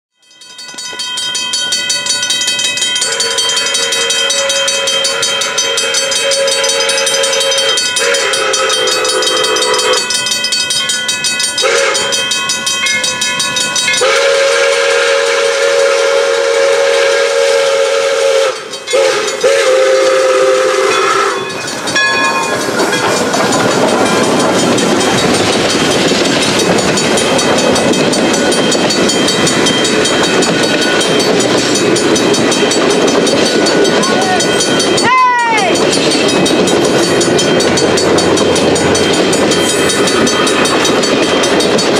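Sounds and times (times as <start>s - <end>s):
steam locomotive chime whistle: 0.1s - 41.9s
train wheels rolling past: 0.2s - 41.9s.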